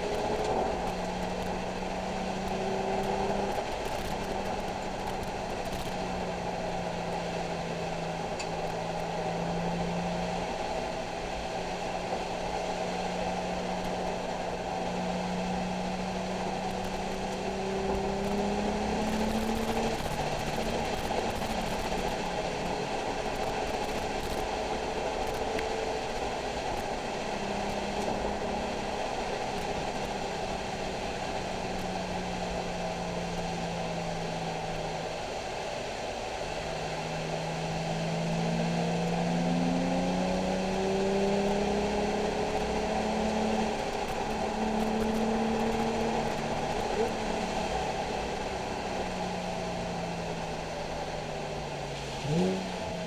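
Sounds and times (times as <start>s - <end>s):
car engine running: 0.0s - 53.0s
road and tyre hiss: 0.0s - 53.0s.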